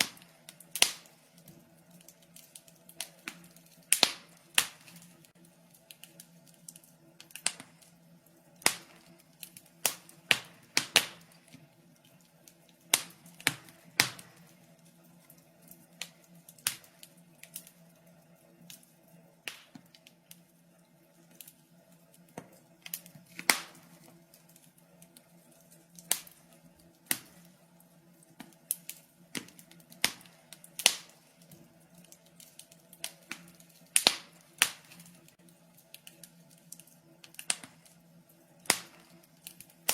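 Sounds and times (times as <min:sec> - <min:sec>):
faint steady hum: 0:00.0 - 0:39.9
wood fire popping and snapping: 0:00.0 - 0:39.9.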